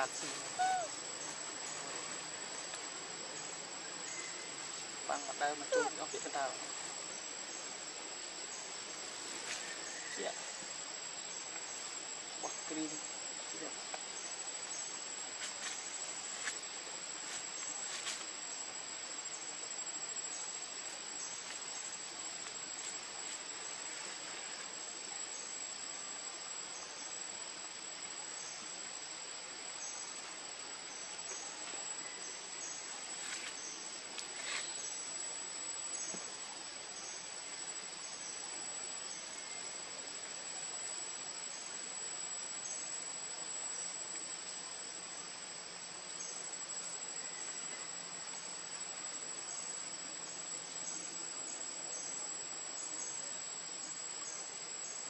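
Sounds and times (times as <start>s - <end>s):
insect chirping: 0.0s - 55.0s
insect high-pitched whine: 0.0s - 55.0s.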